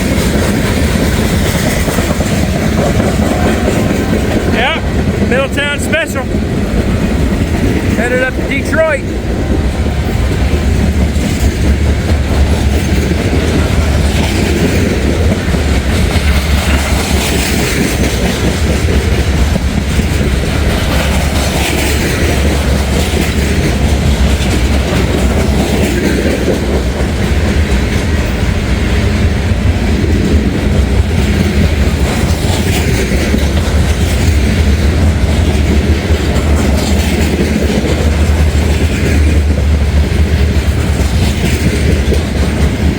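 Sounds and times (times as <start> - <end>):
freight train cars rumbling past: 0.0 - 42.9
wheels clacking over rail joints: 0.0 - 42.9.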